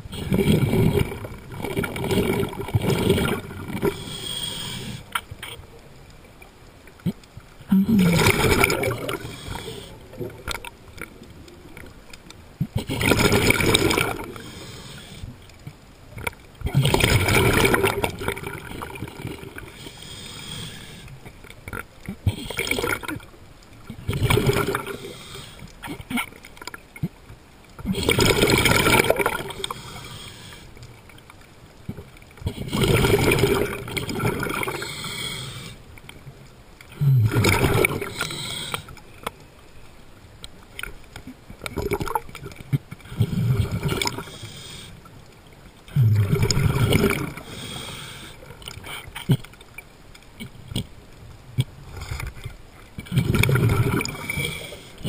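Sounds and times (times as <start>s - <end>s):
exhaled air bubbling underwater: 0.0s - 39.3s, 40.8s - 55.0s
underwater noise: 0.0s - 55.0s.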